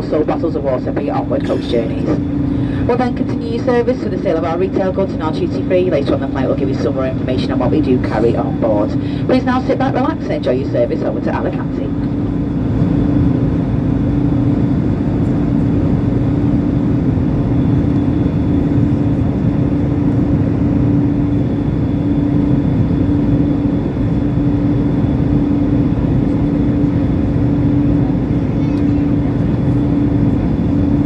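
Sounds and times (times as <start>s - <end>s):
constant hum: 0.0s - 31.0s
jet engines roaring: 0.0s - 31.0s.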